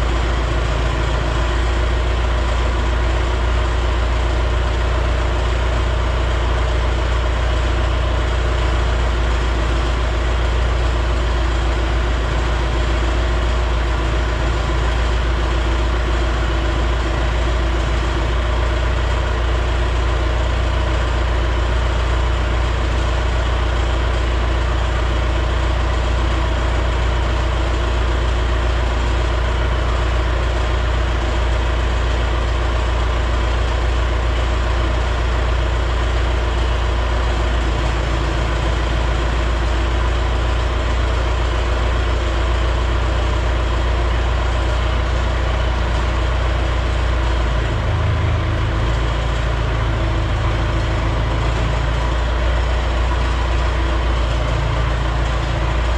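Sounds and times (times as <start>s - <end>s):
steady mechanical drone: 0.0s - 55.9s.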